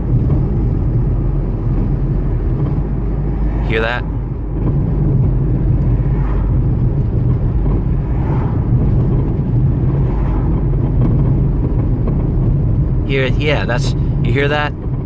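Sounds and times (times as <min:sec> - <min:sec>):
car cabin road rumble: 0:00.0 - 0:15.0
suspension clunks: 0:00.0 - 0:15.0.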